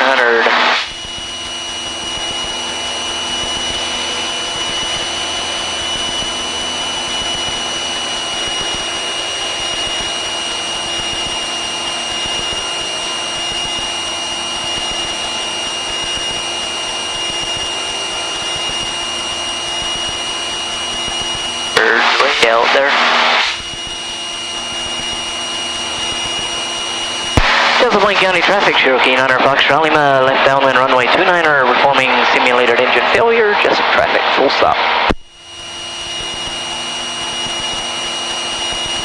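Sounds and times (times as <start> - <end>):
airplane engine drone: 0.0 - 39.0.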